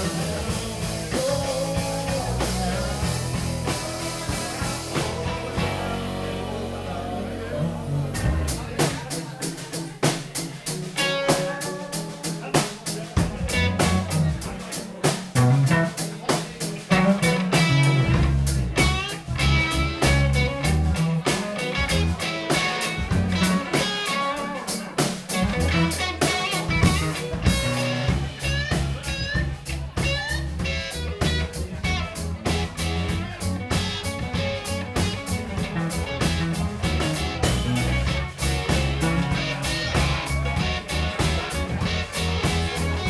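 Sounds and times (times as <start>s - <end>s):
steady drum beat: 0.0s - 6.9s, 8.1s - 43.0s
low bass notes: 0.0s - 9.1s, 13.2s - 43.0s
electric guitar playing: 0.0s - 43.0s.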